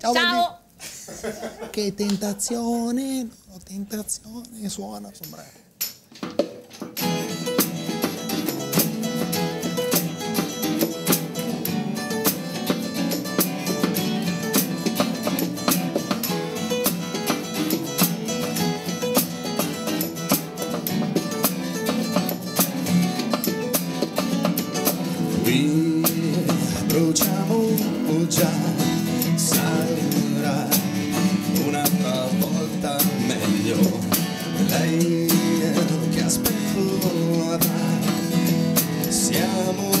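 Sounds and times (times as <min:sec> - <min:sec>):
drum kit beat: 0:06.0 - 0:40.0
strummed acoustic guitars: 0:06.4 - 0:40.0.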